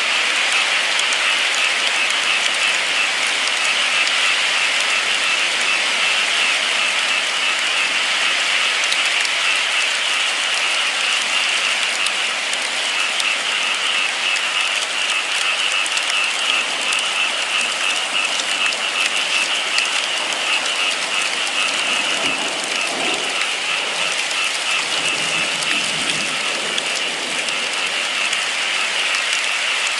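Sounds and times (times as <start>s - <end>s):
sharp raindrop ticks: 0.0s - 29.9s
steady rain falling: 0.0s - 29.9s.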